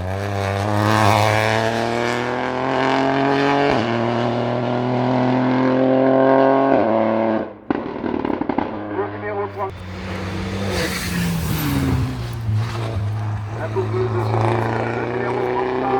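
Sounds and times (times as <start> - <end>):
race car engine accelerating: 0.0 - 15.9.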